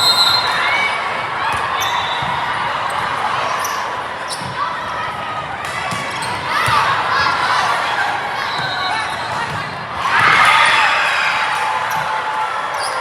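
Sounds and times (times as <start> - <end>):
murmur of voices in hall: 0.0 - 13.0.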